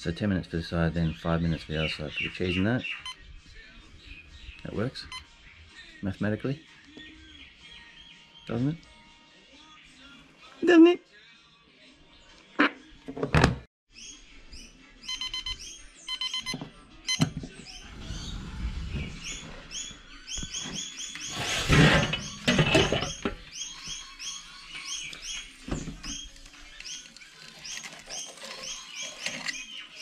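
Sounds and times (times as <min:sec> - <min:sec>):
small birds chirping: 0:00.0 - 0:10.3, 0:13.9 - 0:30.0.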